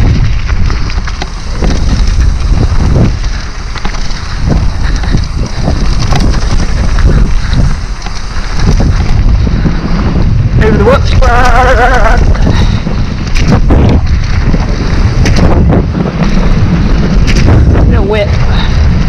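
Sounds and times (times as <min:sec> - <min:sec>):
bike knocks and rattles: 0:00.0 - 0:19.0
tyres rumbling on dirt: 0:00.0 - 0:19.0
wind buffeting microphone: 0:00.0 - 0:19.0.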